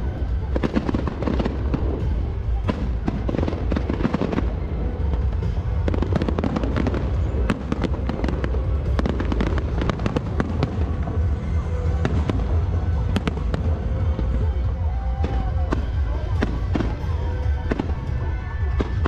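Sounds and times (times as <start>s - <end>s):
fireworks bangs and crackles: 0.0s - 19.0s
steady low rumble: 0.0s - 19.0s.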